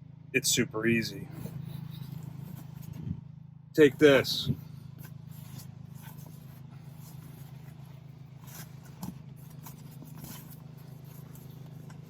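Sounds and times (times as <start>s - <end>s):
steady low hum: 0.0s - 12.0s
seat cover rustling and scraping: 1.3s - 3.2s, 4.0s - 12.0s.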